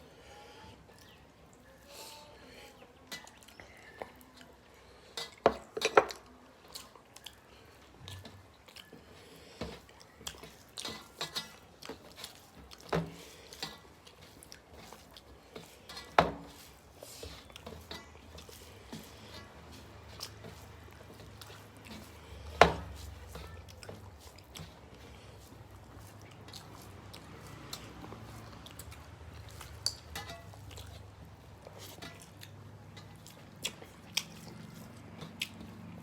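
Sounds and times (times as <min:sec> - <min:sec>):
person chewing: 0:03.2 - 0:36.0.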